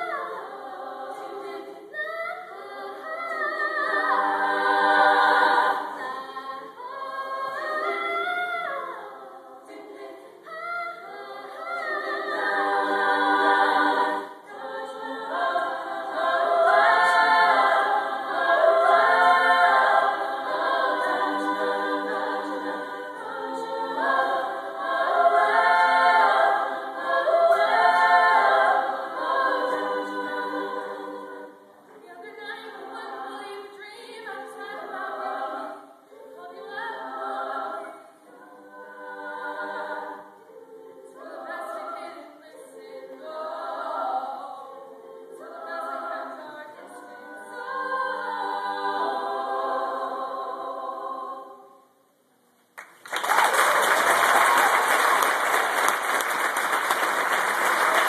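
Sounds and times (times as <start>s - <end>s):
women's choir singing: 0.0s - 52.2s, 53.1s - 58.0s.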